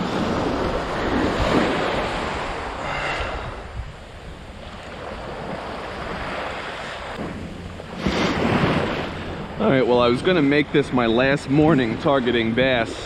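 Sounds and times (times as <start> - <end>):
wind buffeting microphone: 0.0 - 11.7
ocean surf washing on beach: 0.0 - 13.0.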